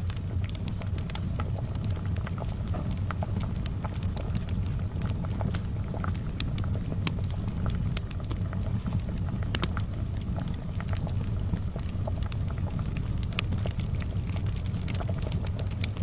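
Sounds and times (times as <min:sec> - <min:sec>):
charcoal fire crackling: 0:00.0 - 0:16.0
kettle boiling: 0:00.0 - 0:16.0.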